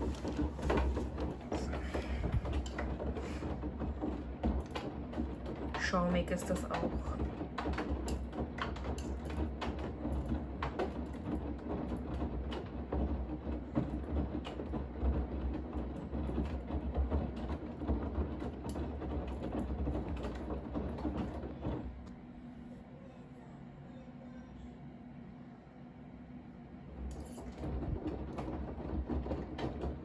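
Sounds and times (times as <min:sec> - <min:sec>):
washing machine rumble: 0:00.0 - 0:30.0.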